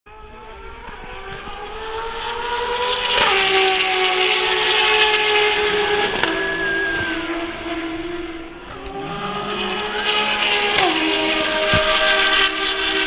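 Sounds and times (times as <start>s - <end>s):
race car engine accelerating: 0.1s - 13.0s.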